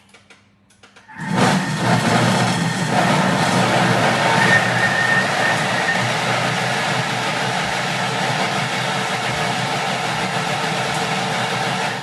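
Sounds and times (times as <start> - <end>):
electric mixer motor running: 1.1 - 12.0.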